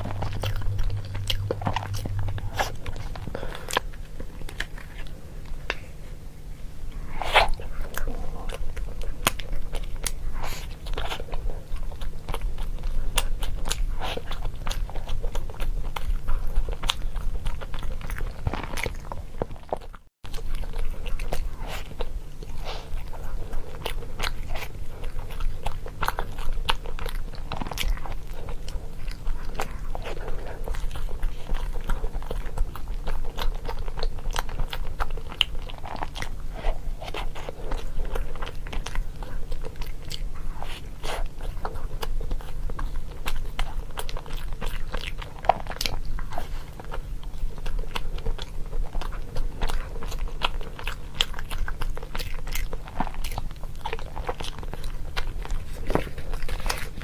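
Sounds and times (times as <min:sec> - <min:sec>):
crunchy chewing: 0:00.0 - 0:57.0
faint low hum: 0:00.0 - 0:57.0.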